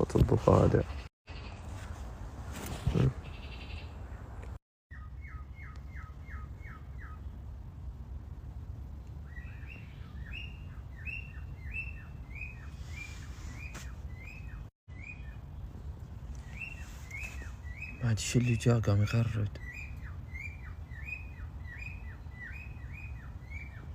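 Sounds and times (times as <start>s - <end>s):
bird chirping: 3.1s - 7.5s, 9.0s - 23.9s.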